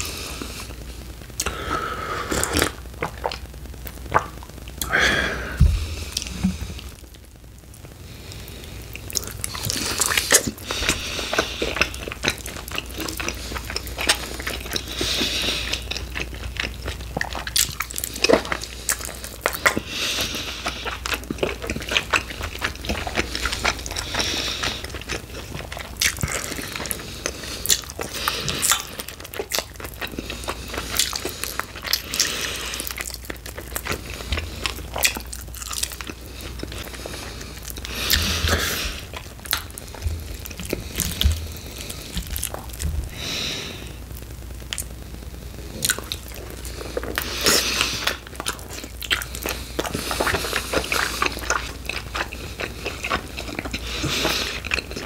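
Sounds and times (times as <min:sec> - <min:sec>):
chewing with crisp crunches: 0:00.0 - 0:05.0, 0:05.7 - 0:55.0.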